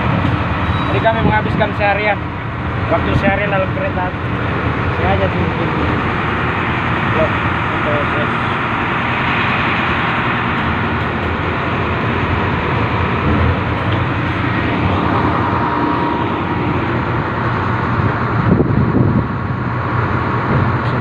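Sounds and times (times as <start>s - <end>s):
train running on track: 0.0s - 21.0s.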